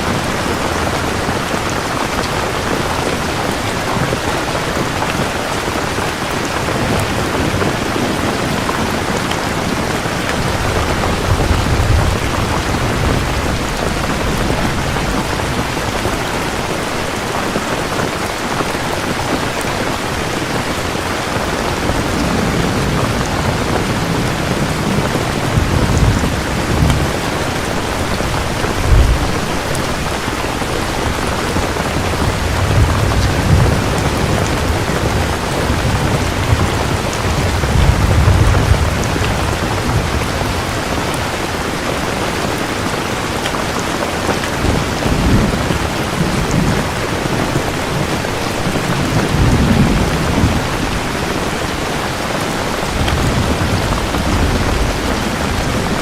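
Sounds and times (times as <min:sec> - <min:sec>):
thunder rumbling: 0:00.0 - 0:43.4, 0:44.3 - 0:56.0
heavy rain: 0:00.0 - 0:56.0.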